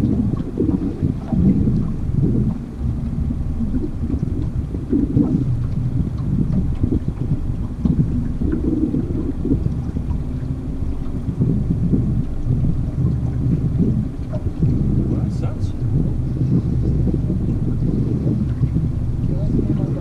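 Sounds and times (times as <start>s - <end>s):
boat motor running: 0.0s - 20.0s
wind buffeting the microphone: 0.0s - 20.0s.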